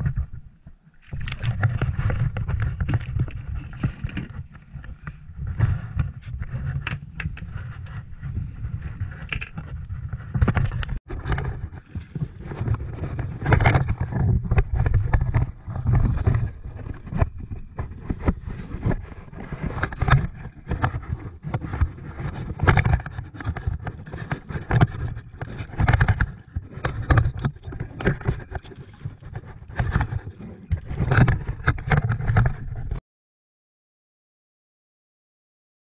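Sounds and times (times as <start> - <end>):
water slapping kayak hull: 0.0 - 32.9.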